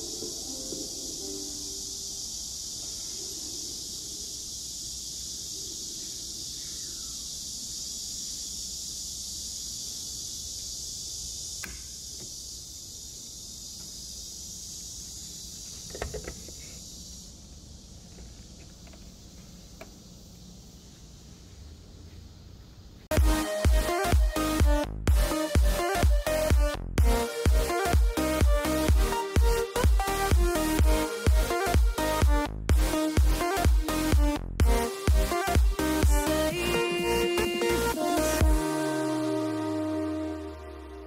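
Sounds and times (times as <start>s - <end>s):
high-pitched hiss: 0.0s - 41.0s.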